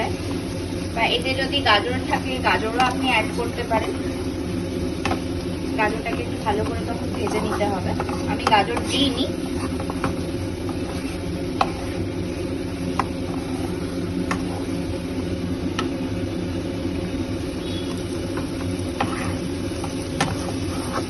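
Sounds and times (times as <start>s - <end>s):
steady low hum: 0.0s - 21.0s
vegetables frying: 0.0s - 21.0s.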